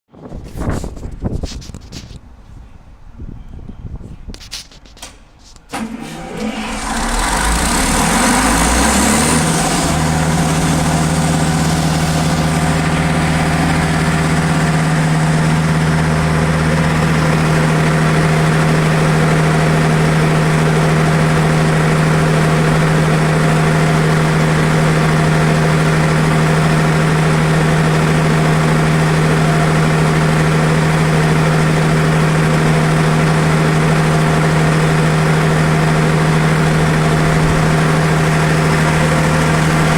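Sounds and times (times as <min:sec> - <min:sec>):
diesel generator engine running: 0:05.6 - 0:39.9.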